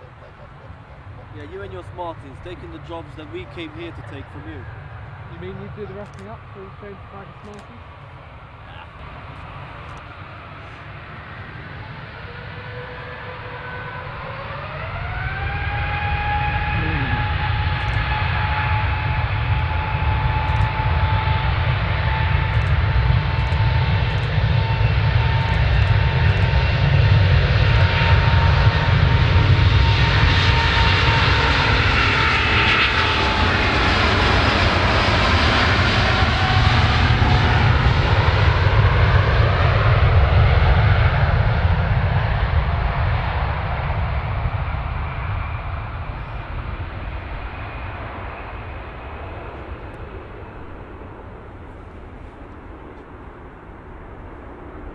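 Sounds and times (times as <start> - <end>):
jet engine turbine whine: 0.0 - 54.9.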